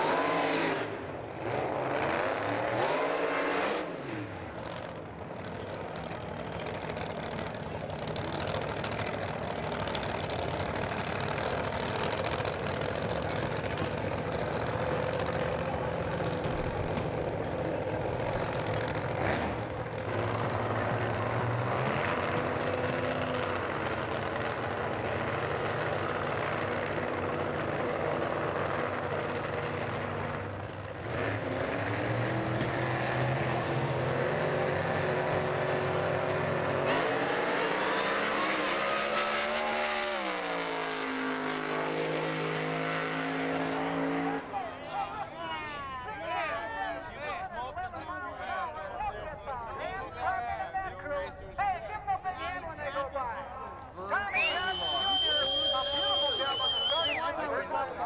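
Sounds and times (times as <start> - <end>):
race car engines droning: 0.0 - 58.0.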